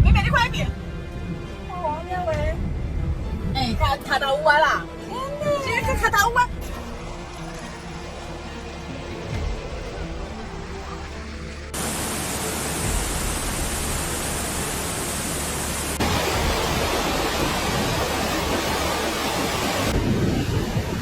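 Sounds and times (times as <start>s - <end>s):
rushing floodwater: 0.0s - 21.0s
torrential rain: 0.0s - 21.0s.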